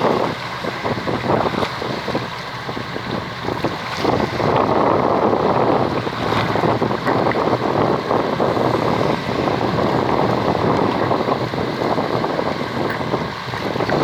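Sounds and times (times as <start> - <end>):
steady rushing noise on boat: 0.0 - 14.0
wind buffeting microphone: 0.0 - 14.0.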